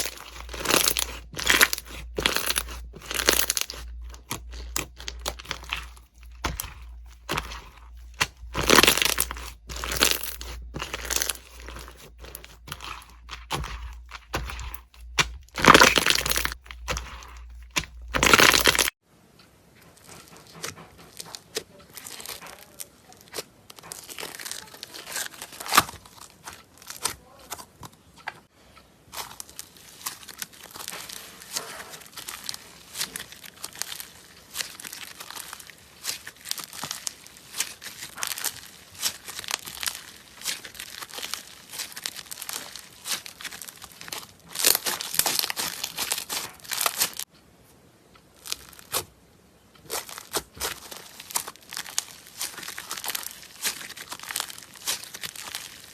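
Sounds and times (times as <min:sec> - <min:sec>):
slime crackling by hand: 0:00.0 - 0:19.0, 0:20.0 - 0:28.2, 0:29.0 - 0:47.3, 0:48.2 - 0:49.2, 0:49.8 - 0:55.9.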